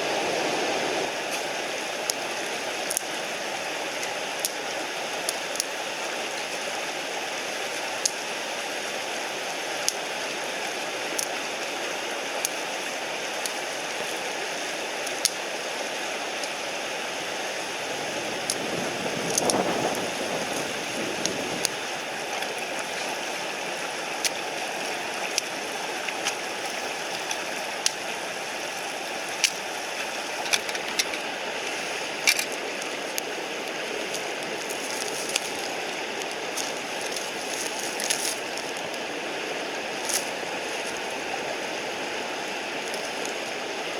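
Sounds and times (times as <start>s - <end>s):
mountain stream rushing: 0.0s - 43.9s.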